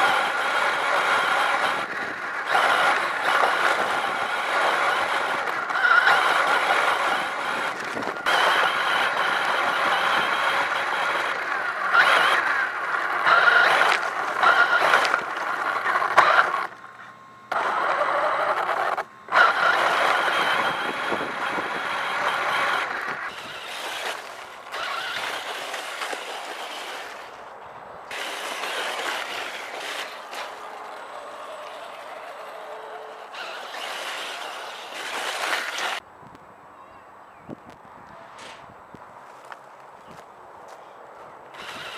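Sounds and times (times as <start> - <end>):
electric motor whining: 0.0 - 36.0, 41.5 - 41.9
tyres and chassis rattling: 0.0 - 36.1, 41.2 - 41.9.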